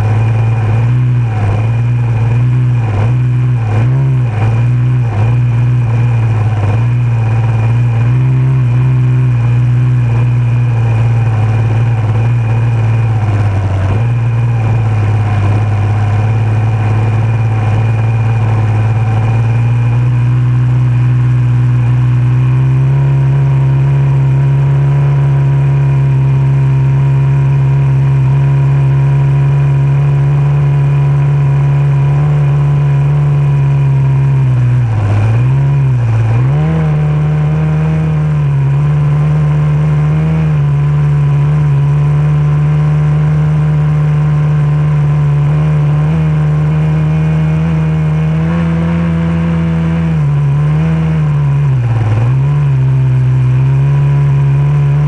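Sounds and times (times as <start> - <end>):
outboard motor running flat out: 0.0 - 55.0.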